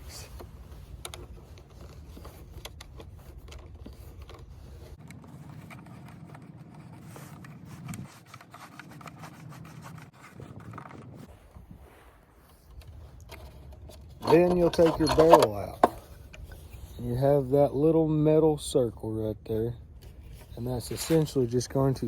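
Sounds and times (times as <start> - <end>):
screw rubbing and scraping: 0.0 - 11.7, 12.5 - 17.4, 20.1 - 22.0.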